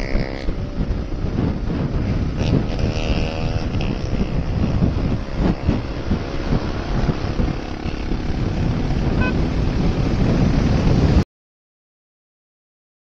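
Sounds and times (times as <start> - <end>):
wind buffeting microphone: 0.0 - 11.2
motorcycle engine and road noise: 0.0 - 11.3.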